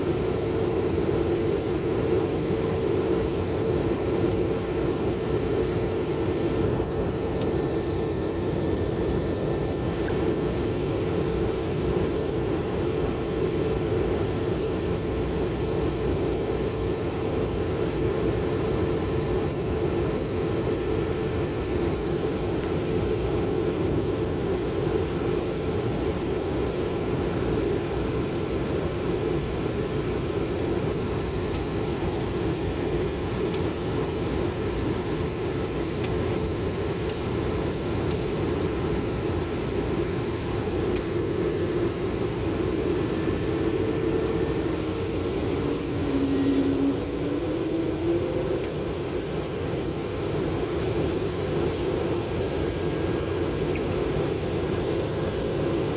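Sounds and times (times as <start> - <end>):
airliner engines and airflow drone: 0.0 - 55.9.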